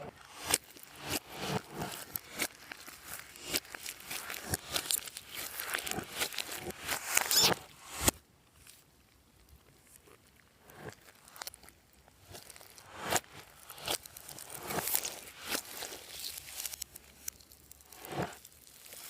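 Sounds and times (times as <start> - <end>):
slime squished by hand: 0.2 - 8.2, 10.0 - 19.0.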